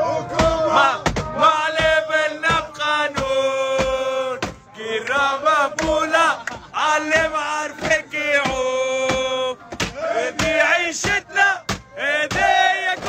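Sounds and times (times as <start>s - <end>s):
men chanting in unison: 0.0s - 13.0s
hand-struck beats: 0.4s - 13.0s.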